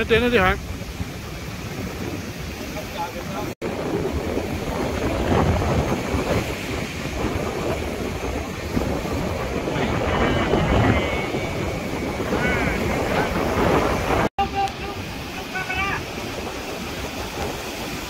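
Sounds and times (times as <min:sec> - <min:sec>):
surf breaking on rocky shore: 0:00.0 - 0:18.0
wind buffeting microphone: 0:00.0 - 0:18.0.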